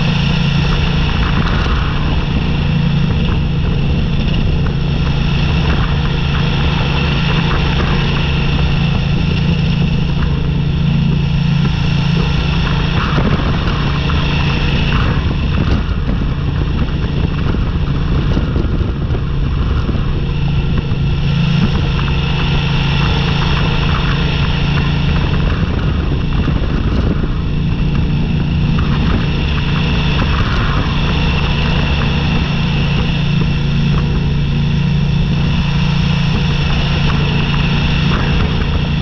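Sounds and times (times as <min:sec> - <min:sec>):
gravel ticking: 0:00.0 - 0:39.0
motorcycle engine running: 0:00.0 - 0:39.0
wind on microphone: 0:00.0 - 0:39.0.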